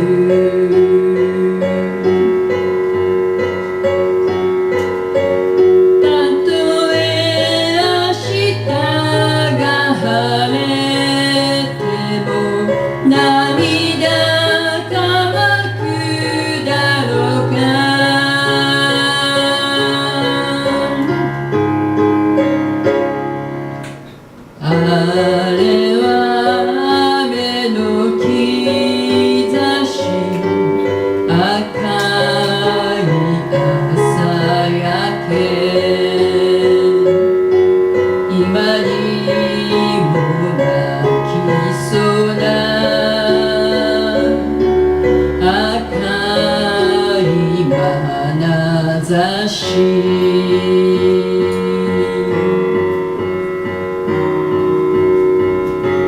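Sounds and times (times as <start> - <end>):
person singing a ballad: 0.0 - 23.4, 24.5 - 54.9
piano: 0.0 - 56.0.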